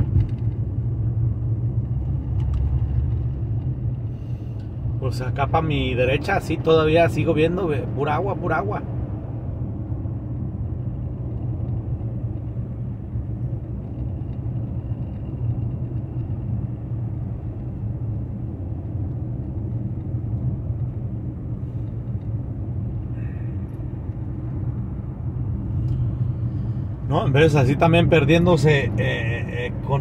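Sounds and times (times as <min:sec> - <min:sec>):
car driving on road: 0:00.0 - 0:30.0.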